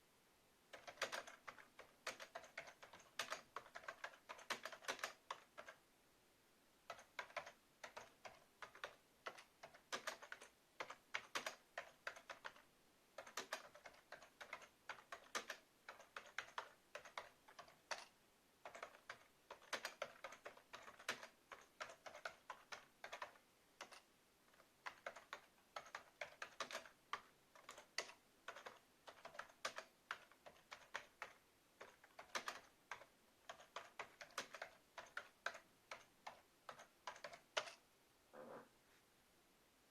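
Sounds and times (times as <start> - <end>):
keyboard typing clicks: 0.7 - 5.8, 6.9 - 12.6, 13.2 - 37.8.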